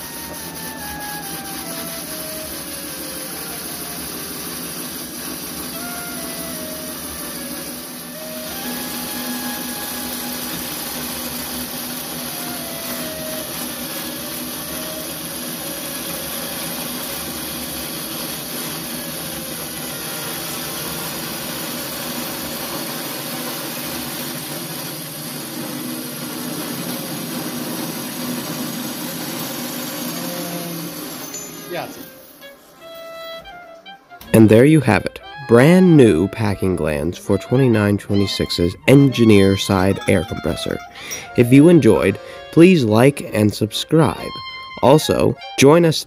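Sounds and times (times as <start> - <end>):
metal lathe humming: 0.0 - 46.0.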